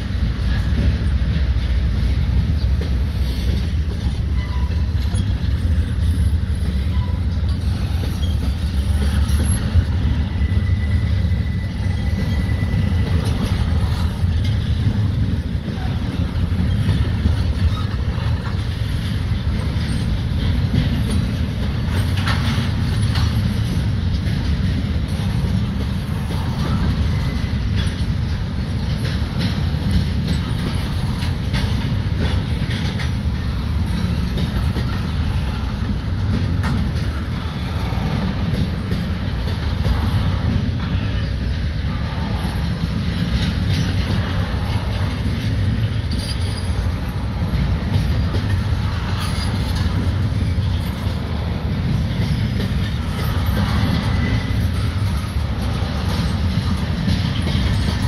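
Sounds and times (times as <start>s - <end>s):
freight train rumbling past: 0.0s - 58.0s
train clicks: 0.0s - 58.0s.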